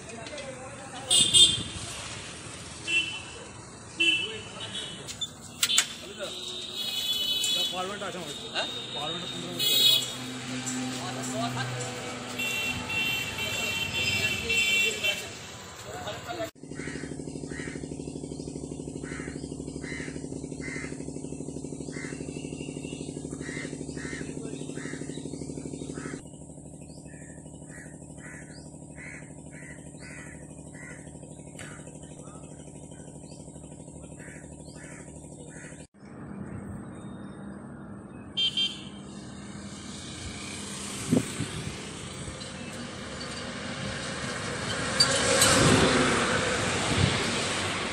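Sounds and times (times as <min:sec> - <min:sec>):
road traffic passing: 0:00.0 - 0:47.9.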